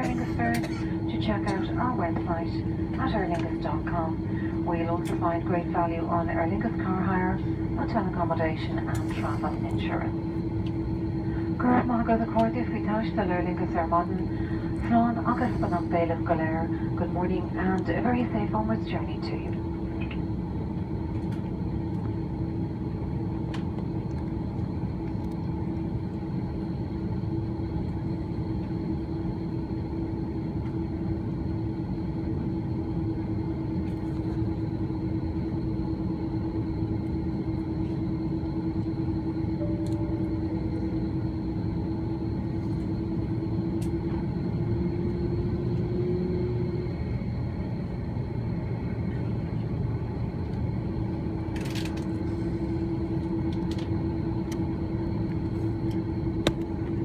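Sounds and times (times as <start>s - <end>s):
airplane cabin rumble and hum: 0.0s - 57.0s.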